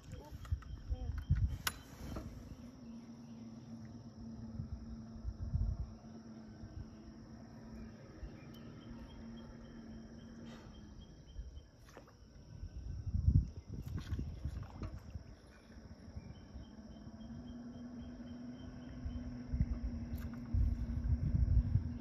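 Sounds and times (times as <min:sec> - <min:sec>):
faint low hum: 0:00.0 - 0:22.0
insects chirping: 0:00.0 - 0:22.0.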